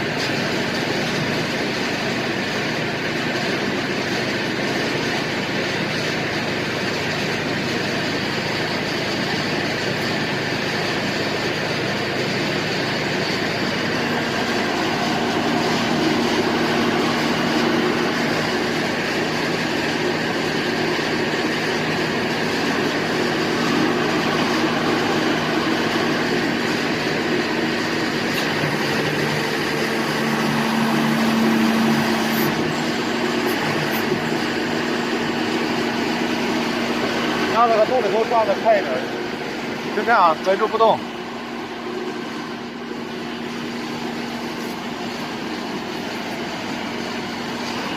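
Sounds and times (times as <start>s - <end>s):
drilling rig mechanical drone: 0.0s - 47.9s.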